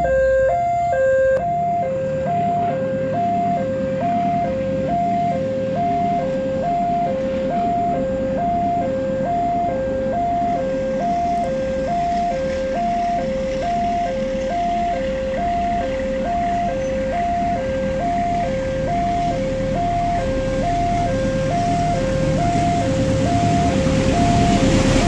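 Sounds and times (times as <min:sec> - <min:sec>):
two-tone crossing alarm: 0:00.0 - 0:25.0
low rumble: 0:00.7 - 0:25.0.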